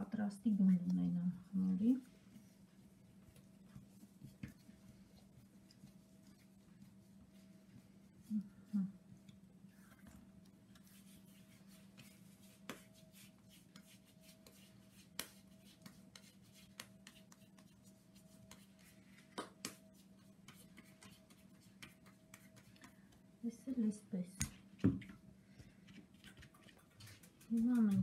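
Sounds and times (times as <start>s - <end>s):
hands patting dough: 0.2s - 8.2s, 10.3s - 28.0s.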